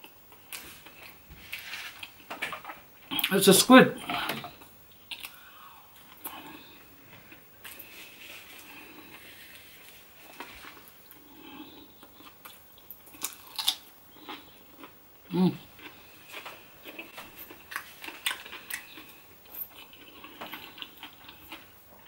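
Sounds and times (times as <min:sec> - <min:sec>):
person chewing food: 0:00.0 - 0:03.3, 0:04.0 - 0:22.0.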